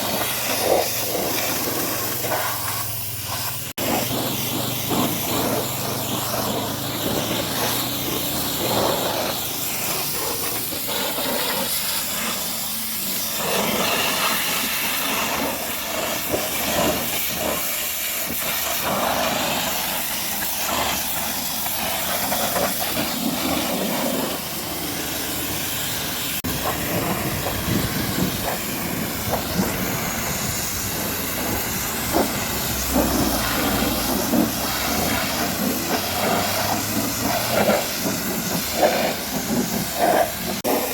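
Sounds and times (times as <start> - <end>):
pressure washer jet hissing: 0.0 - 40.9.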